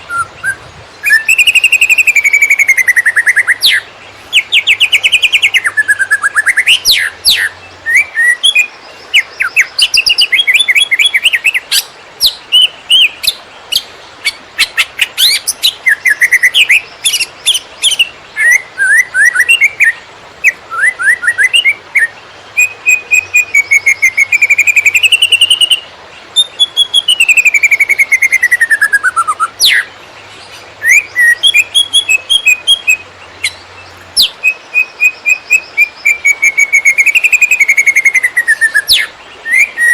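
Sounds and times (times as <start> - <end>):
bird singing rapid chirps and trills: 0.0 - 39.9.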